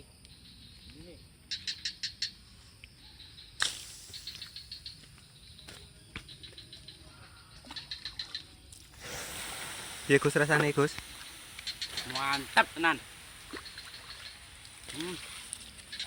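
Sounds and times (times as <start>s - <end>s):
bird chirping: 0.2s - 8.8s, 10.6s - 16.0s.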